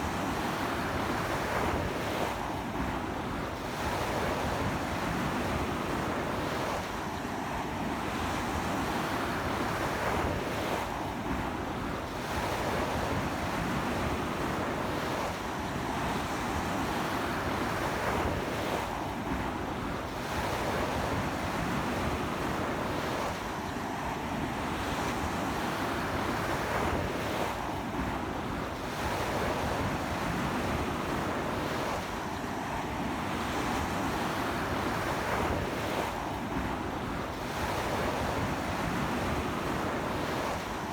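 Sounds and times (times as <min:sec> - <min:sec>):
sea waves breaking on beach: 0:00.0 - 0:40.9.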